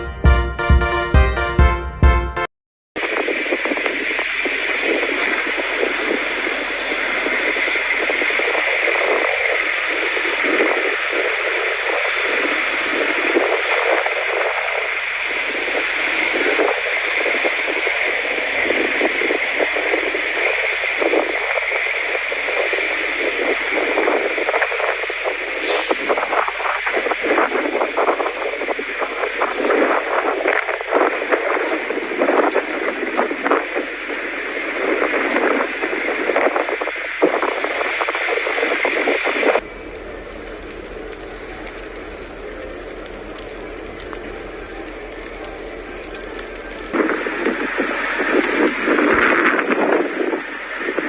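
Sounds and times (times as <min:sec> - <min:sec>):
blizzard wind rushing: 0:03.0 - 0:51.0.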